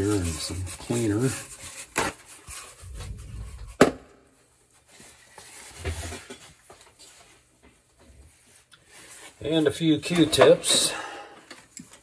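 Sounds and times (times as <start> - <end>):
rustling and handling noises: 0.0 - 12.0.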